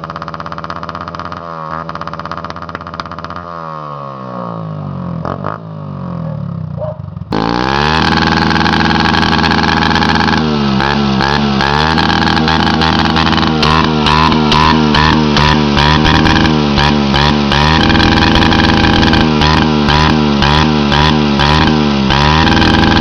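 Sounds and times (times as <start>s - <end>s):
motorcycle hitting rev limiter: 0.0s - 5.8s, 6.6s - 23.0s
motorcycle engine revs falling: 0.0s - 23.0s.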